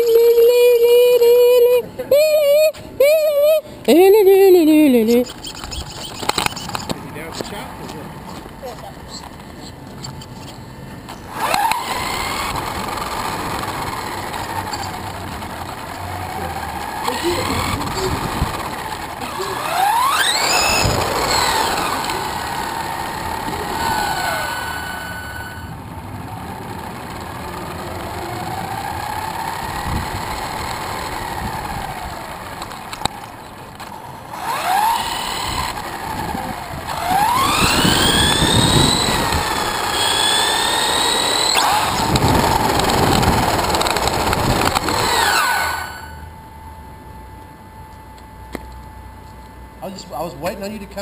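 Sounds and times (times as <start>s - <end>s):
electric motor whining: 0.0s - 51.0s
quiet steady hum: 0.0s - 51.0s.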